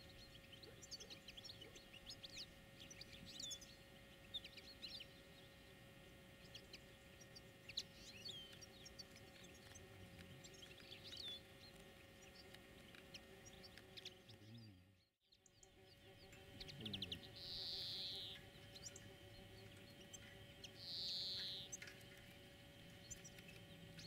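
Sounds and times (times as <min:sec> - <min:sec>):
faint steady hum: 0:00.0 - 0:24.0
songbirds chirping: 0:00.0 - 0:24.0.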